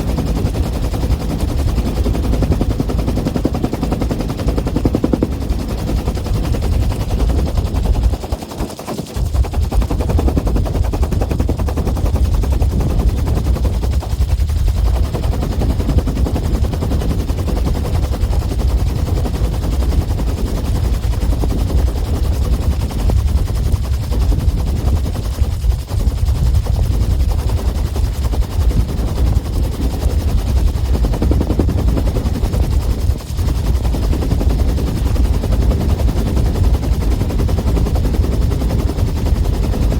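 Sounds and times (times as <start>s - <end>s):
helicopter rotor thudding: 0.0s - 21.6s, 27.2s - 39.9s.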